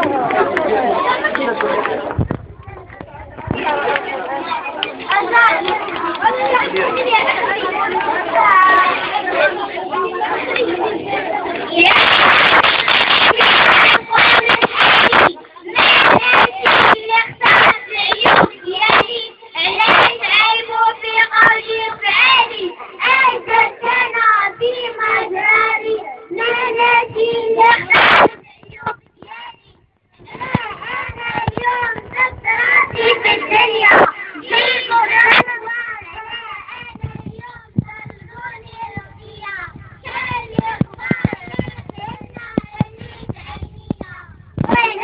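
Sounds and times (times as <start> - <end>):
girls singing together: 5.0 - 45.0.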